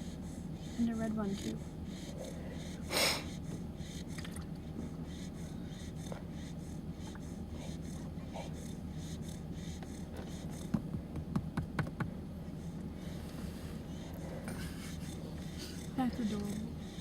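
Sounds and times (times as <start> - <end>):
puppy snoring: 0.0 - 11.1, 12.6 - 17.0.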